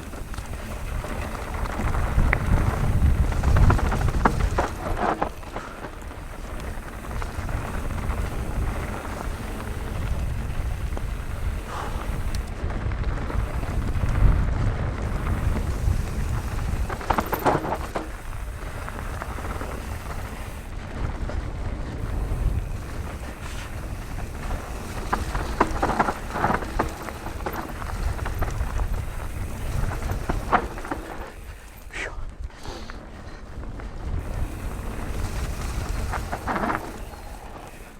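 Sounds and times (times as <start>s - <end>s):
bike clattering over rocks: 0.0s - 14.4s, 15.0s - 21.3s, 22.0s - 31.9s, 34.2s - 37.9s
tyres rumbling on dirt: 0.0s - 37.9s
wind on microphone: 0.0s - 37.9s.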